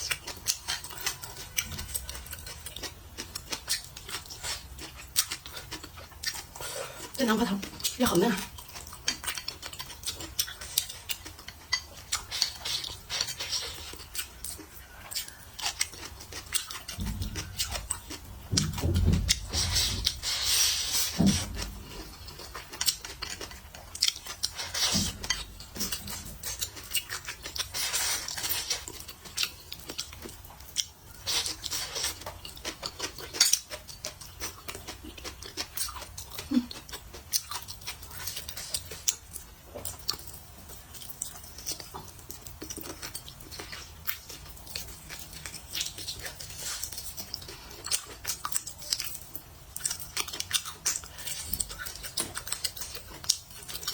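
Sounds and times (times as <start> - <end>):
chewing food: 0.0 - 53.9.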